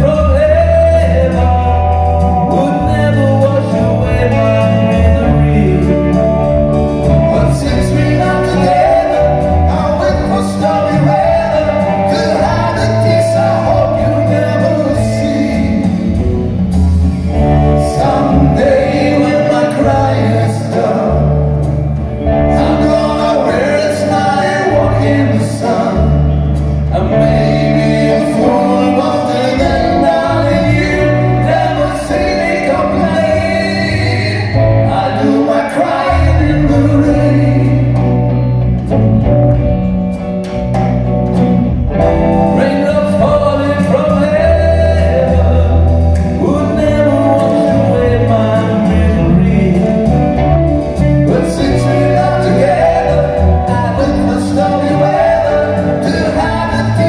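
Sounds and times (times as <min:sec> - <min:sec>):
two men singing together: 0:00.0 - 0:06.3, 0:07.0 - 0:16.2, 0:17.6 - 0:21.6, 0:22.3 - 0:38.2, 0:42.4 - 0:57.0
drums: 0:00.0 - 0:57.0
electric guitar: 0:00.0 - 0:57.0
low bass notes: 0:00.0 - 0:57.0.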